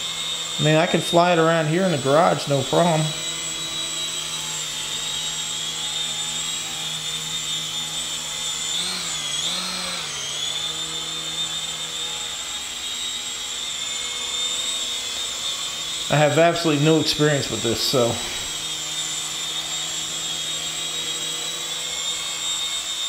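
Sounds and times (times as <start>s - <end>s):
toy helicopter motor whining: 0.0s - 23.0s.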